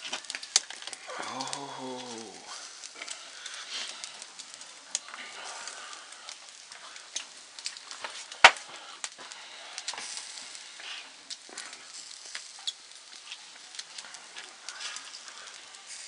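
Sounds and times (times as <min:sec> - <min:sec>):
embers crackling and popping: 0:00.0 - 0:16.0
meat sizzling over embers: 0:00.0 - 0:16.0.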